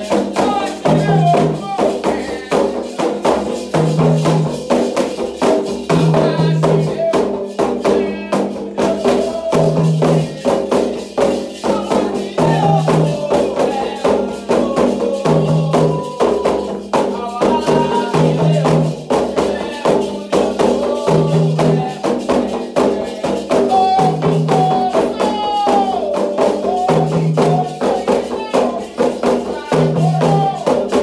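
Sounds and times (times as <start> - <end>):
hand drums beating fast rhythm: 0.0 - 31.0
people chanting: 0.0 - 31.0
rattling percussion: 0.0 - 31.0.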